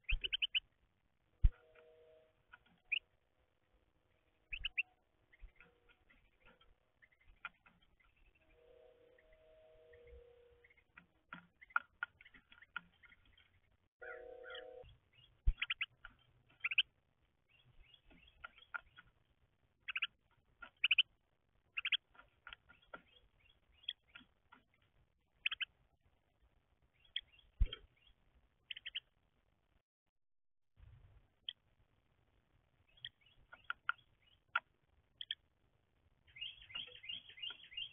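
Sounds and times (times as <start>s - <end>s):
small songbirds chirping: 0.0s - 29.2s, 32.4s - 37.9s.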